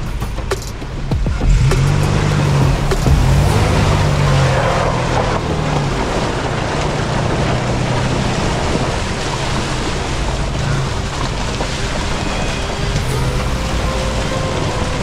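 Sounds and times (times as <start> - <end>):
tyres splashing through water: 0.0 - 15.0
low engine hum: 1.4 - 15.0.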